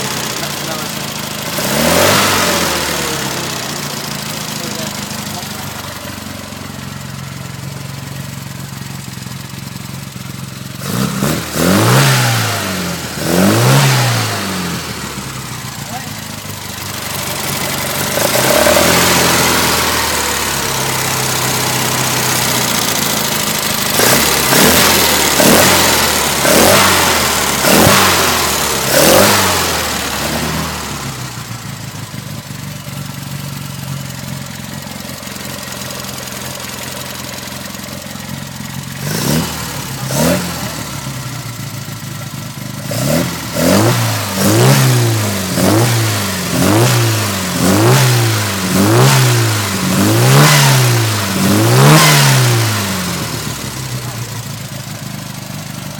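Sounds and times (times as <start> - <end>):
car engine idling and revving: 0.0 - 55.9.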